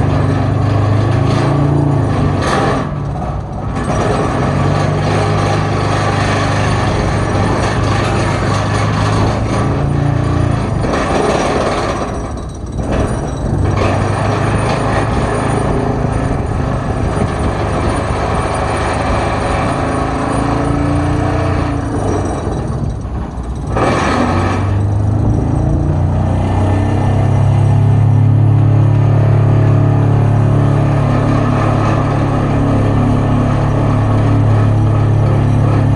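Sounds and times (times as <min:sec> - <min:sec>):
pile driver machine noise: 0:00.0 - 0:35.9.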